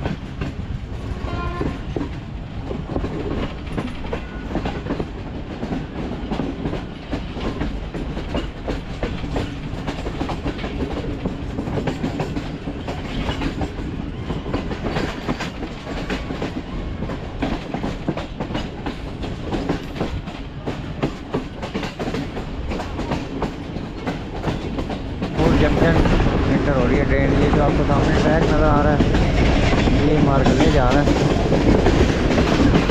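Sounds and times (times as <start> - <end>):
low train rumble: 0.0 - 32.9
train wheels clickety-clack: 0.0 - 32.9.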